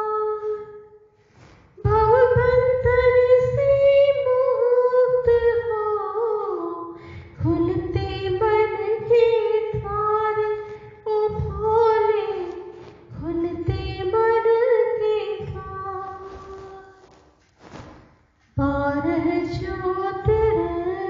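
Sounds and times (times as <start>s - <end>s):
woman singing devotional song: 0.0s - 1.0s, 1.8s - 17.0s, 18.6s - 21.0s.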